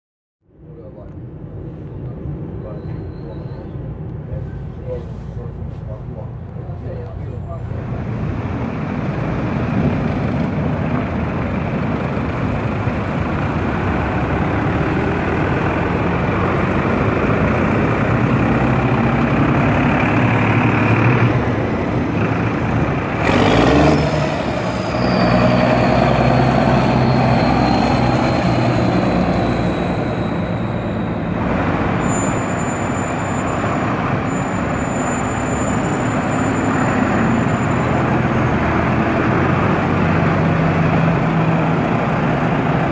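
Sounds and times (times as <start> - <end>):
tractors driving past: 0.9 - 42.9.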